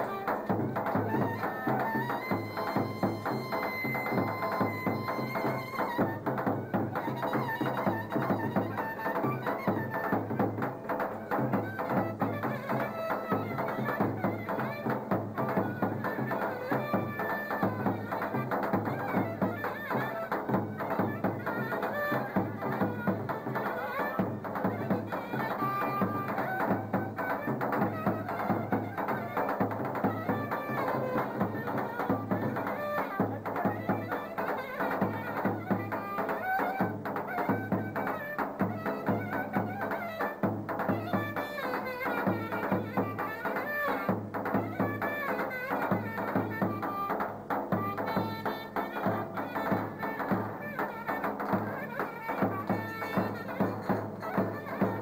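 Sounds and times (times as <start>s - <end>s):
clarinet melody: 0.0s - 55.0s
driving drum beat: 0.0s - 55.0s.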